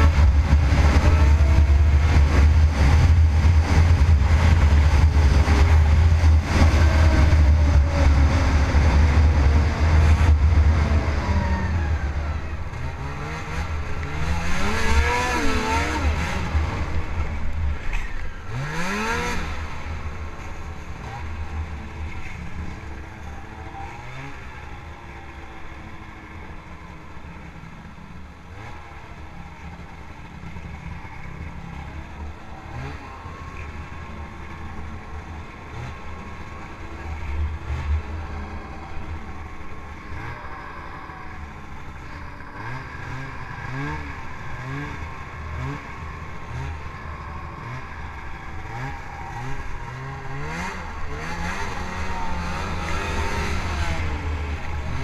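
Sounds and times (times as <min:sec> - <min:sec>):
snowmobile engine revving: 0:00.0 - 0:24.7, 0:30.2 - 0:55.0.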